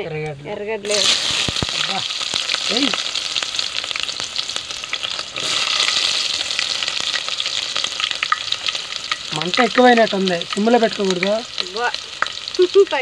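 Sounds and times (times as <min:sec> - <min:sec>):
onions sizzling in hot oil: 0:00.8 - 0:13.0.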